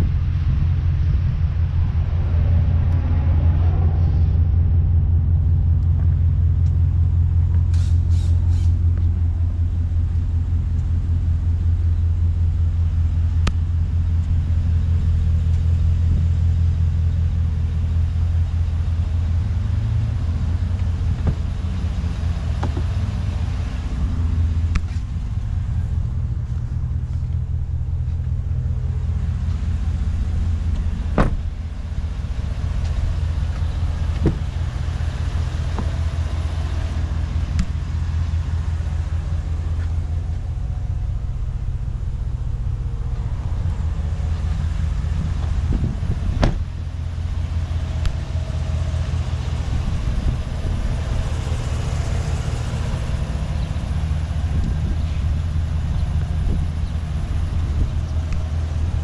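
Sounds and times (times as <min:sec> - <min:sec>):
pickup truck engine idling: 0:00.0 - 0:59.0.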